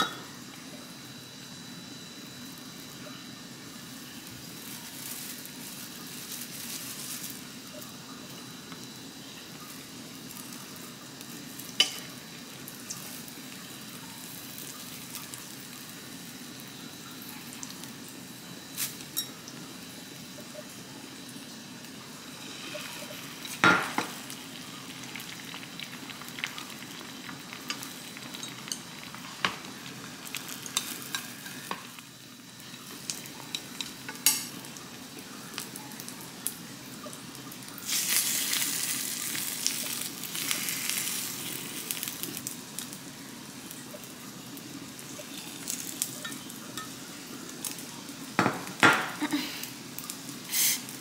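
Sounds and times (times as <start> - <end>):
food sizzling in oil: 0.0 - 51.0.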